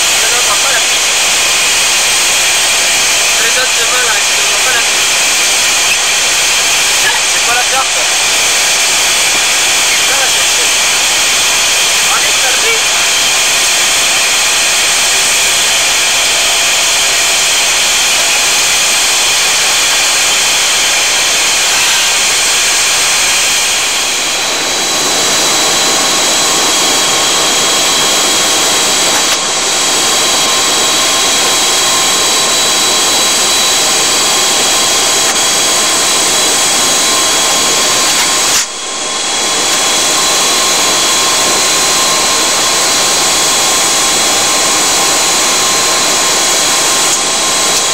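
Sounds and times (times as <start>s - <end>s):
aircraft engines roaring: 0.0s - 47.9s
high engine whines: 0.0s - 47.9s.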